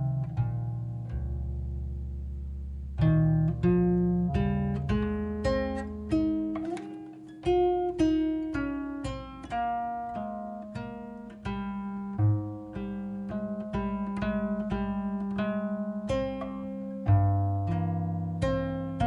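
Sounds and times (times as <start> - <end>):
acoustic guitar plucking melody: 0.0 - 19.0
held bass notes: 0.0 - 19.0.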